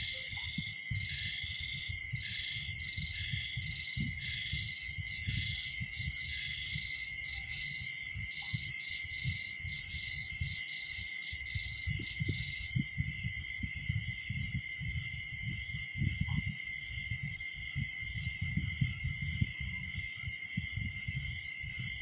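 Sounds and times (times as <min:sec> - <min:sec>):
cricket trill: 0:00.0 - 0:22.0
low rumbling microphone noise: 0:00.0 - 0:22.0
pulsing insect call: 0:00.0 - 0:22.0.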